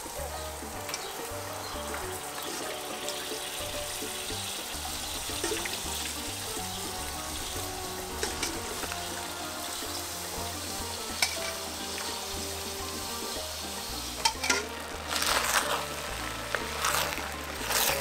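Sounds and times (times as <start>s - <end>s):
background music: 0.0s - 18.0s
chicken sizzling on a grill: 0.0s - 18.0s.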